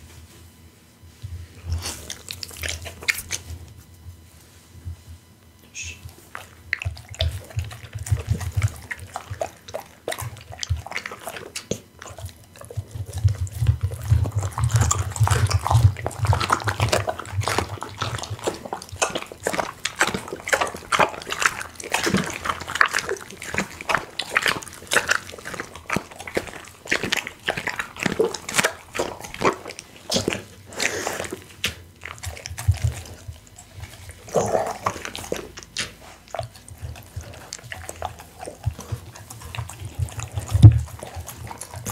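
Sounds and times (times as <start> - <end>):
dog crunching bones: 1.6 - 4.2, 6.0 - 41.9
wet smacking and slurping: 1.7 - 3.8, 5.8 - 41.9.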